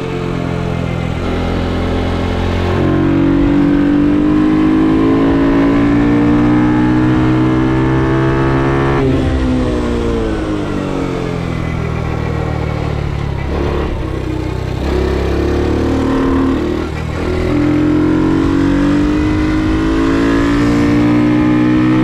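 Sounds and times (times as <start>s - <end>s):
minibike engine accelerating: 0.0s - 22.0s.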